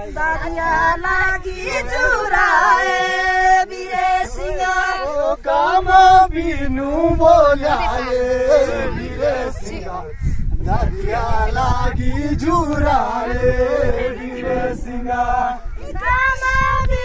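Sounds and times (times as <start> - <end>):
steady lower vocal line: 0.0 - 17.0
voices singing long notes: 0.0 - 17.0.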